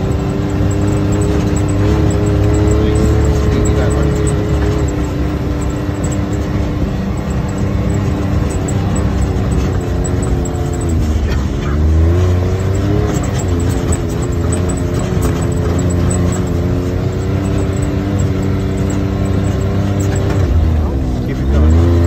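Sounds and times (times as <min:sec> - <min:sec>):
clicks and rattles of vehicle: 0:00.0 - 0:22.0
vehicle engine running: 0:00.0 - 0:22.0.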